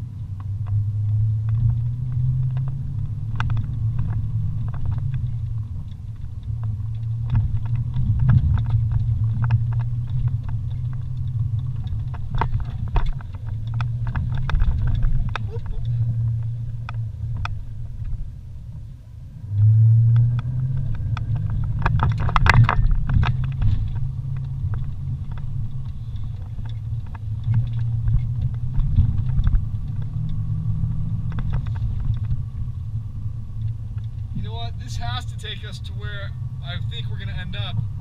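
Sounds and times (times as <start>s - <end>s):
off-road vehicle engine running: 0.0s - 38.0s
vehicle knocks and rattles: 0.4s - 18.3s, 20.2s - 38.0s.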